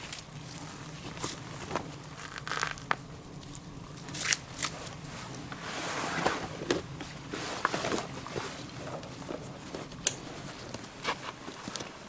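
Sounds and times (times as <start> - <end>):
jacket and backpack rustling: 0.0 - 12.0.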